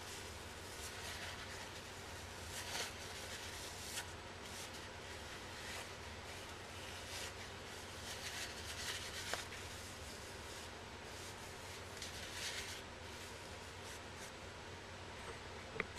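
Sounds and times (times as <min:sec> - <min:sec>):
wipe rubbing on skin: 0:00.0 - 0:14.4.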